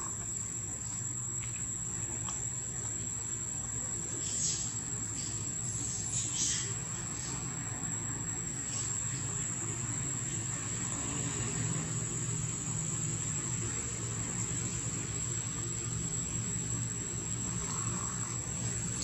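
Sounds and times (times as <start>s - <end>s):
high-pitched insect drone: 3.2s - 19.0s.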